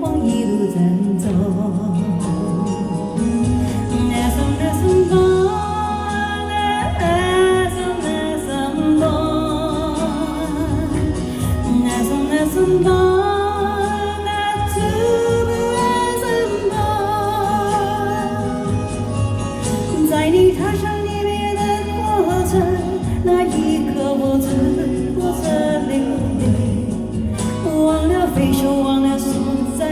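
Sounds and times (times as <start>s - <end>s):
song with sung melody: 0.0s - 29.9s.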